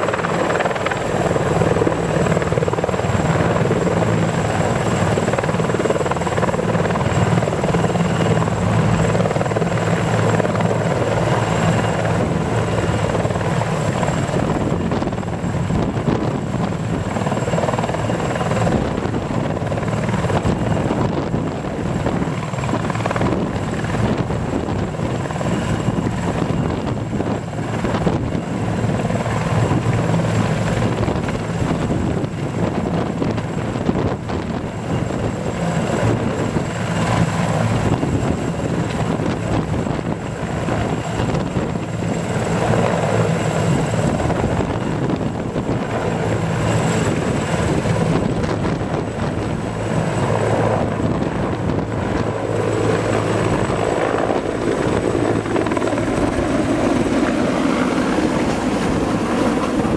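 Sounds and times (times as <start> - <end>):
helicopter rotor and turbine noise: 0.0 - 59.9
high turbine whine: 0.0 - 59.9.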